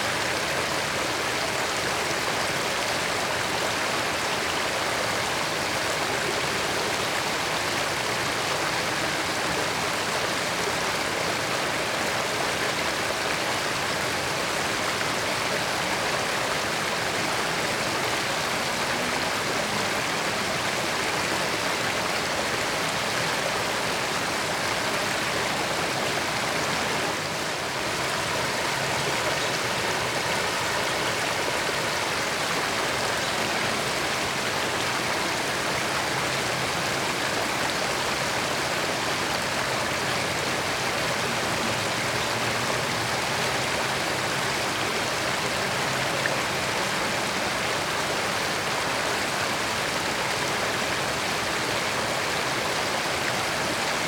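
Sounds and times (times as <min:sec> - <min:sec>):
creek water babbling over rocks: 0:00.0 - 0:54.0.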